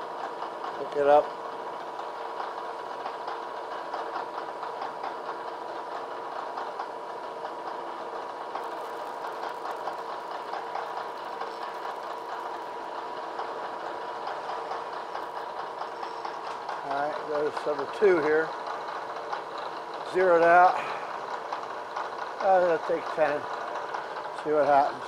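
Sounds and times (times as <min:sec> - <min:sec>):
end mill cutting metal: 0:00.0 - 0:25.0
milling machine spindle whining: 0:00.0 - 0:25.0.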